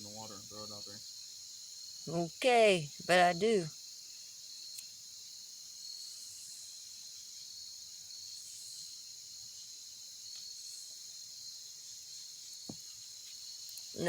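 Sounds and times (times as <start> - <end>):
high insect buzz: 0.0 - 14.0
insect chorus trilling: 0.0 - 14.0.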